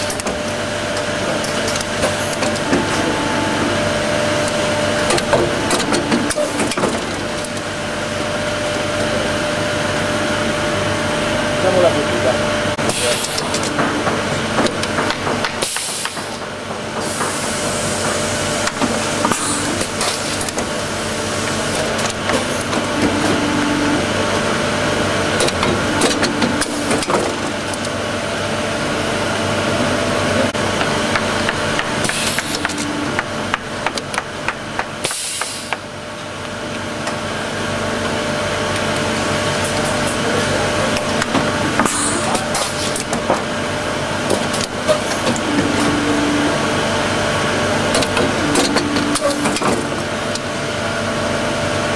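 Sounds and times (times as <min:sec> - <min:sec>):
shoe-lasting machine hum: 0:00.0 - 0:51.9.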